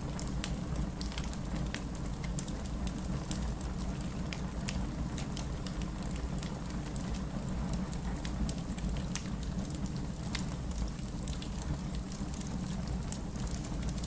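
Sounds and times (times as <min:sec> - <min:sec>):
low rumble of flames: 0:00.0 - 0:14.0
firewood crackling and popping: 0:00.1 - 0:14.0.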